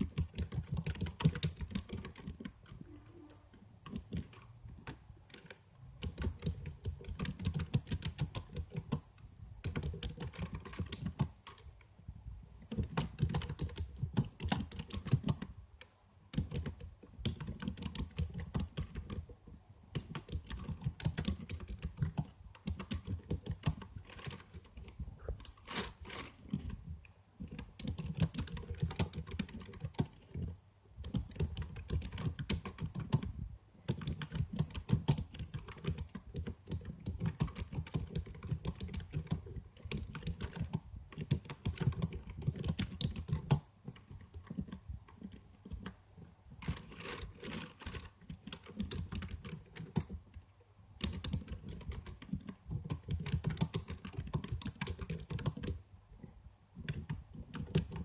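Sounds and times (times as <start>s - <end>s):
computer keyboard typing: 0.0s - 11.6s, 12.6s - 15.6s, 16.3s - 19.3s, 19.9s - 46.0s, 46.6s - 50.2s, 51.0s - 55.8s, 56.8s - 58.0s.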